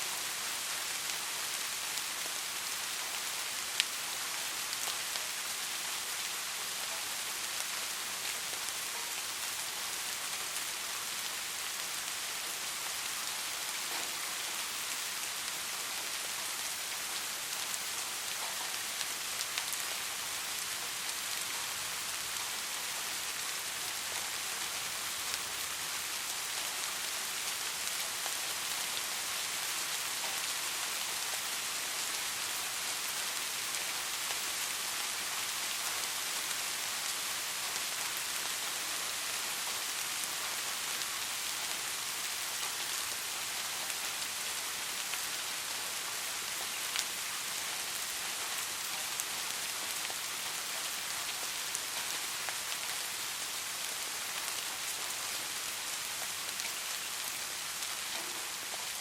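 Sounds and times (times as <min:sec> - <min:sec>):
soft rain hissing: 0:00.0 - 0:59.0
raindrops ticking on a surface: 0:00.2 - 0:59.0.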